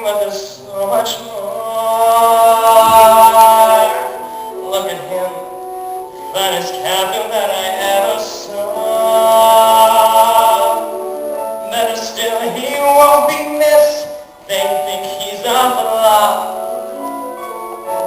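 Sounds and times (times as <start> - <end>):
voices singing long notes: 0.0 - 18.0.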